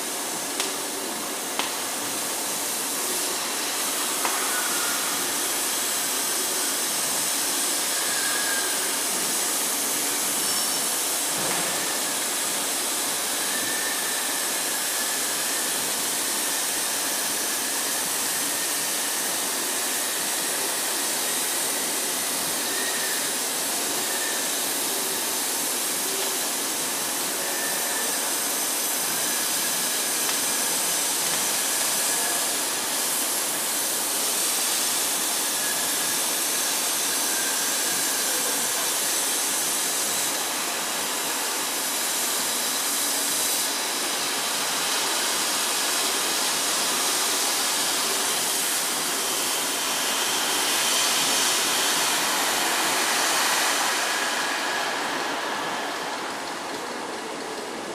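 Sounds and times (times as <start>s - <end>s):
plasma torch hissing: 0.2s - 57.2s.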